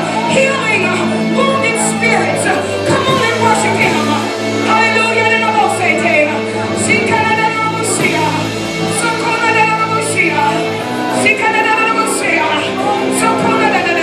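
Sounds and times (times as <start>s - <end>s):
worship band with singing: 0.0s - 14.0s.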